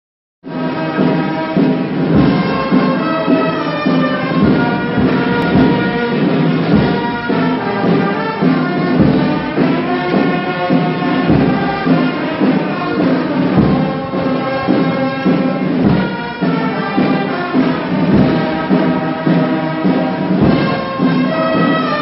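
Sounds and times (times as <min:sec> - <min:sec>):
brass band music: 0:00.5 - 0:22.0
low drum beats: 0:00.5 - 0:22.0.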